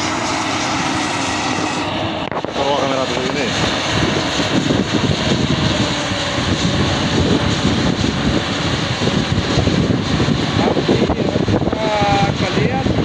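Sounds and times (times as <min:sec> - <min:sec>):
excavator diesel engine running: 0:00.0 - 0:13.0
wind buffeting microphone: 0:00.0 - 0:13.0.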